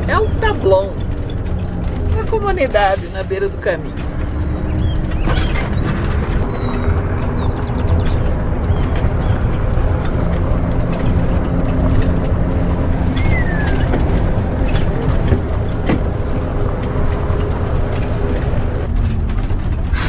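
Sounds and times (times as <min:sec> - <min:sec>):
diesel engine hum: 0:00.0 - 0:20.0
rattles and clicks from body: 0:00.0 - 0:20.0
road noise: 0:00.0 - 0:20.0.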